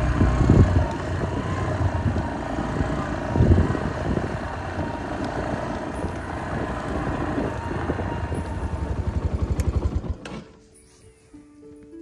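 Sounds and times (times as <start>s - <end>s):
vehicle engine throbbing: 0.0s - 10.3s.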